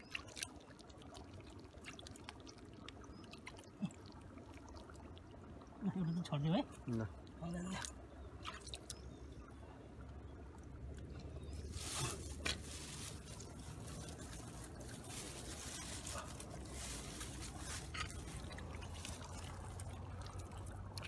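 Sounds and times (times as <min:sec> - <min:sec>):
water sloshing and trickling: 0:00.0 - 0:21.0
water splashes: 0:00.0 - 0:21.0.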